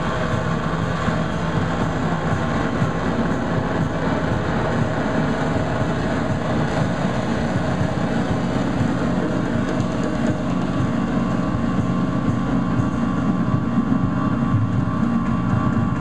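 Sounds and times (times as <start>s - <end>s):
noise drone music: 0.0s - 16.0s.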